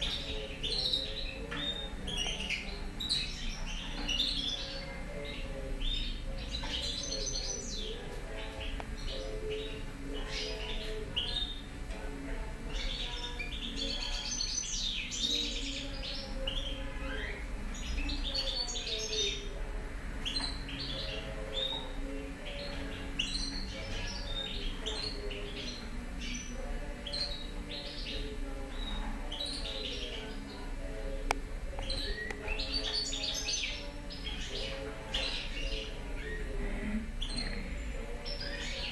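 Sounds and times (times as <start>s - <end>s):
goldfinch singing: 0.0s - 38.9s.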